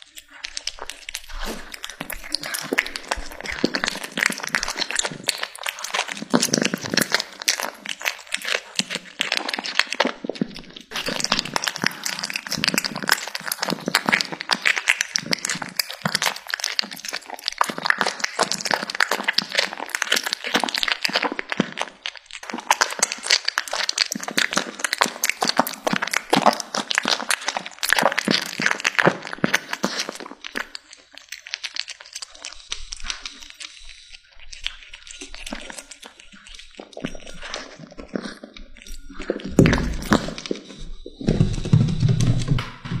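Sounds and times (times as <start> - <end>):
kitten chewing crunchy food: 0.0 - 43.0.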